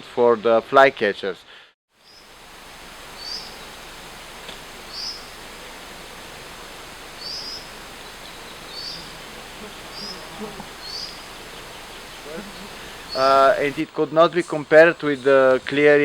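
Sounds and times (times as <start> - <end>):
forest ambience hiss: 1.9 - 16.0
songbird calling: 2.0 - 16.0.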